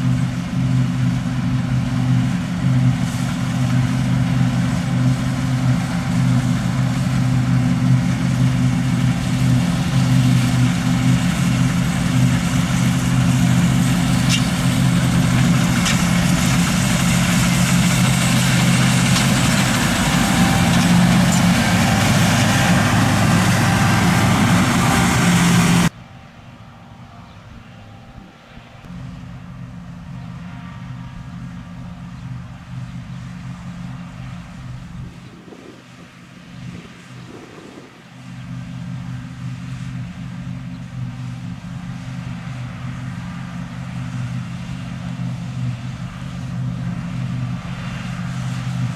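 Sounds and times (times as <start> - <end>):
combine harvester running: 0.0 - 27.2, 27.8 - 48.9
distant engine: 0.0 - 48.9.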